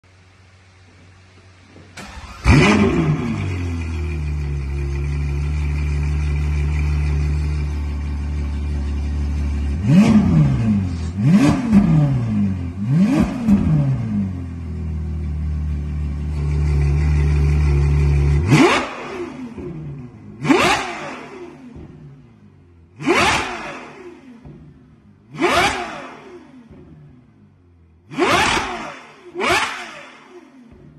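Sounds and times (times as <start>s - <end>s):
car engine idling: 0.1s - 29.4s
car engine revving: 2.0s - 30.9s.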